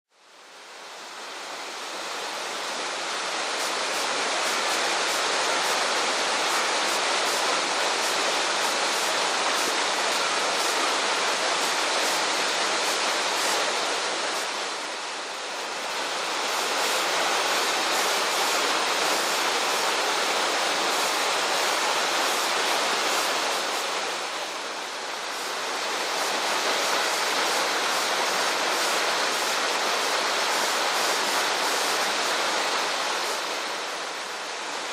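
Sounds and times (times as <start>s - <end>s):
waterfall rushing and splashing: 0.2s - 34.9s.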